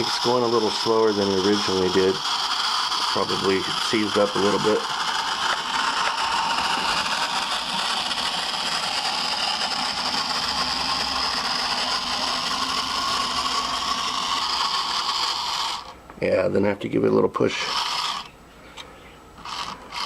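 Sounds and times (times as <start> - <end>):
toy train electric motor running: 0.0 - 16.0, 17.5 - 18.3, 19.4 - 20.0.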